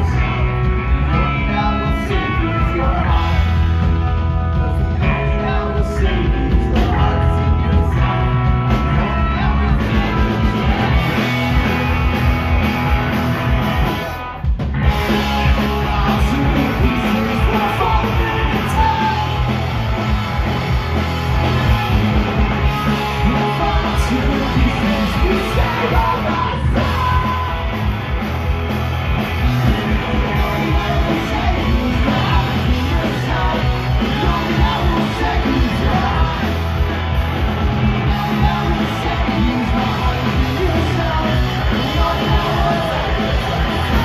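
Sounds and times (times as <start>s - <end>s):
bass guitar: 0.0s - 44.0s
distorted electric guitars: 0.0s - 44.0s
drum kit: 0.0s - 44.0s.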